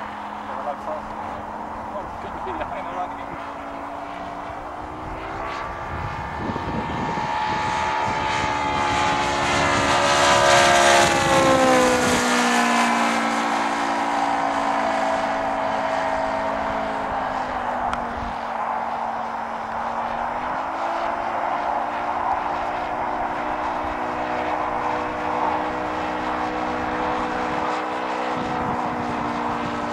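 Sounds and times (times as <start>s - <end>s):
model plane engine flying past: 0.0s - 29.9s.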